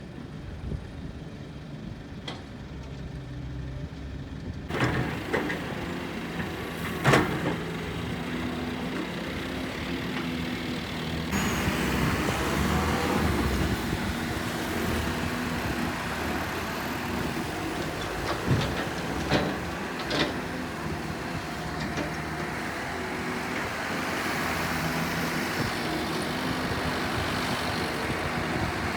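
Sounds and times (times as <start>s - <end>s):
excavator diesel engine running: 0.2s - 28.9s.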